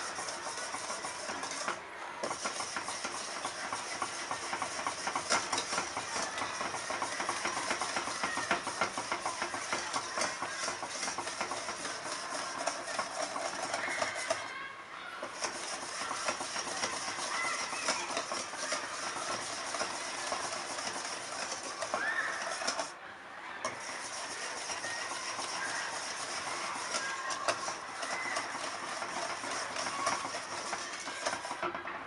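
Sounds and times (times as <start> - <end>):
whisk scraping metal bowl: 0.0 - 14.6, 15.2 - 23.0, 23.6 - 31.8.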